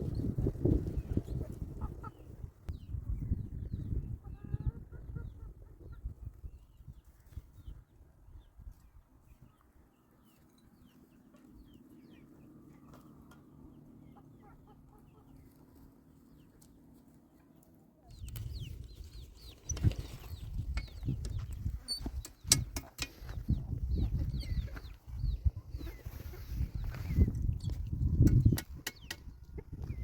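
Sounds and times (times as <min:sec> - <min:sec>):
chickens clucking: 0:00.1 - 0:07.8, 0:08.6 - 0:30.0.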